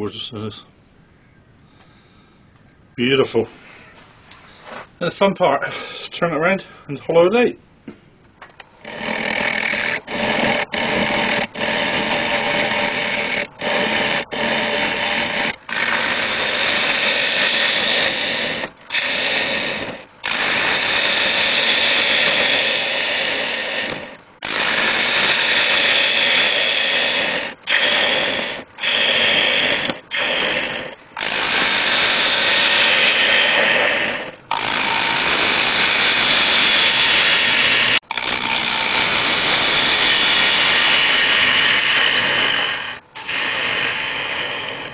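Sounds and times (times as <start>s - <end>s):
gouge cutting wood on a lathe: 8.8s - 44.9s.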